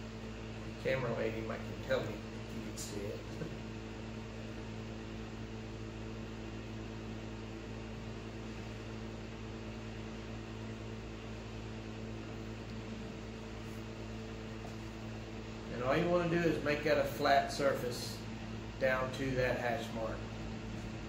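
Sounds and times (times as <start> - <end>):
low droning hum: 0.0 - 21.0.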